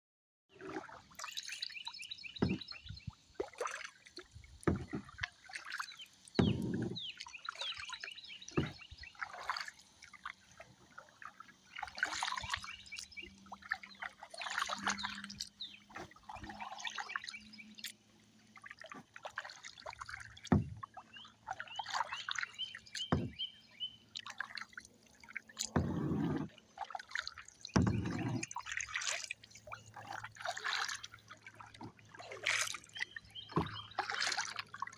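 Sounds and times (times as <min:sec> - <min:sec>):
paddle dipping into water: 0:00.5 - 0:34.9
water splashes: 0:00.5 - 0:34.9
water dripping off paddle: 0:00.6 - 0:23.5, 0:24.1 - 0:34.9.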